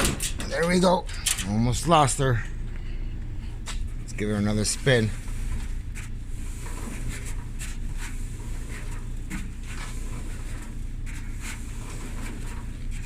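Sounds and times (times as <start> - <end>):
dryer drum rumbling: 0.0 - 13.0.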